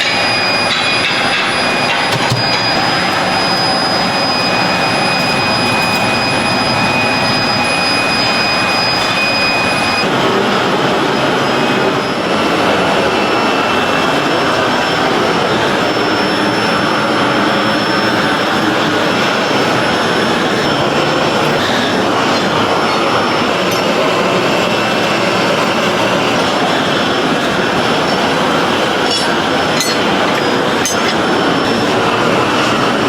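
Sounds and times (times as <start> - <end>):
factory machinery rushing: 0.0 - 33.0
thin high whine: 0.0 - 33.0.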